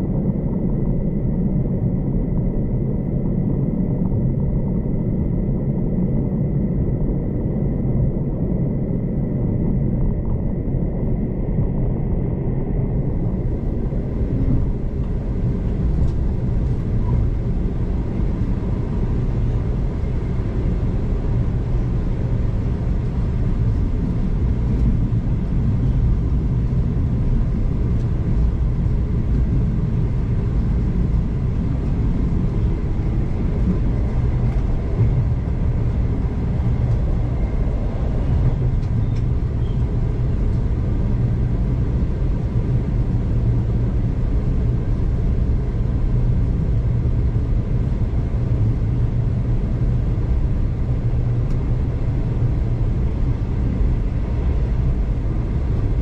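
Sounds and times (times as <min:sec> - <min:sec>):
train rumble from inside carriage: 0:00.0 - 0:56.0.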